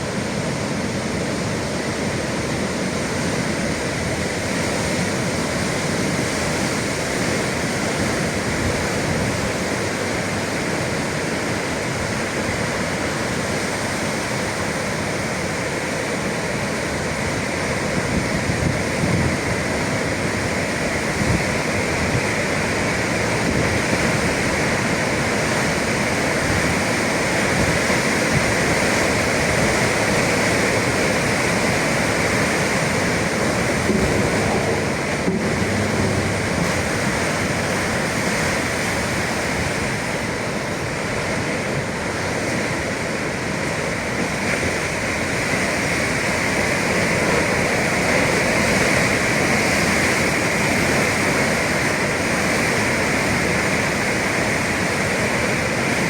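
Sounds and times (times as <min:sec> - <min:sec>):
sea waves and surf rushing: 0:00.0 - 0:56.0.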